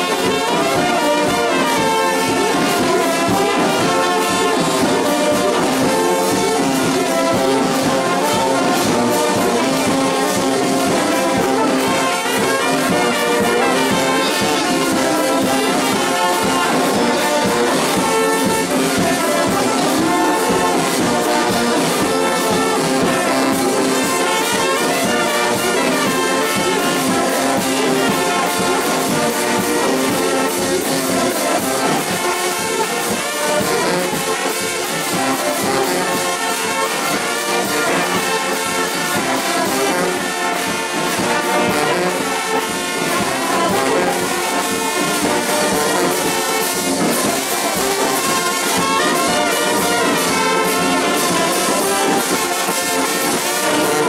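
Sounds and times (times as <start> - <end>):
brass music: 0.0 - 54.0.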